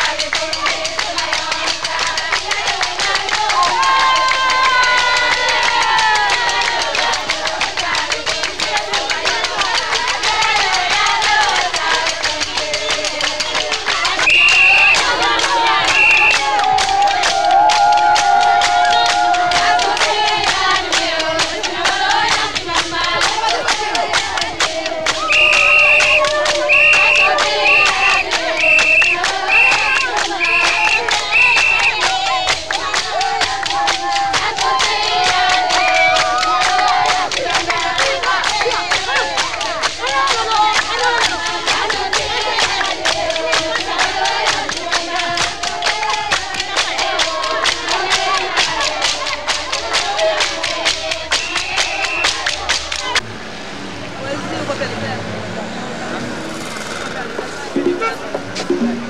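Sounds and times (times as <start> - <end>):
group singing: 0.0 - 53.2
rhythmic hand clapping: 0.0 - 53.2, 57.6 - 59.0.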